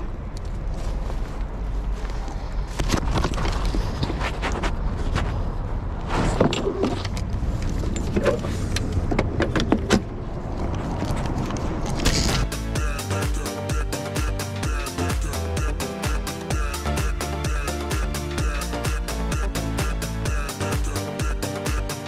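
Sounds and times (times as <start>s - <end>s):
steady low rumble: 0.0s - 21.4s.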